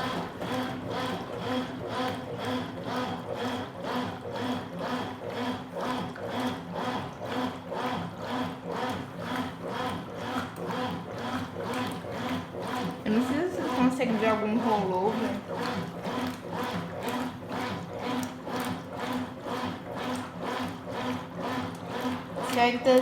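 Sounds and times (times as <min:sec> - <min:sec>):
agitator swishing water: 0:00.0 - 0:23.0
washing machine motor humming: 0:00.0 - 0:23.0.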